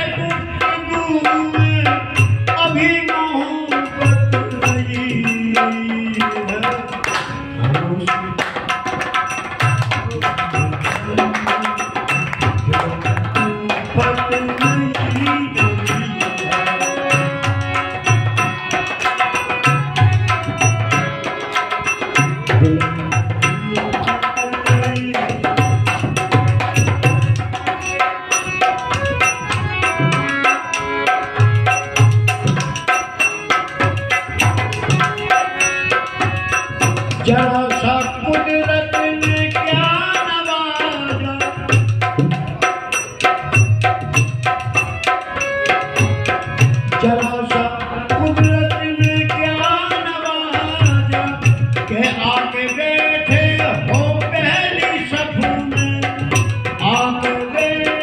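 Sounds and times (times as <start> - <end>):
harmonium chords: 0.0 - 58.0.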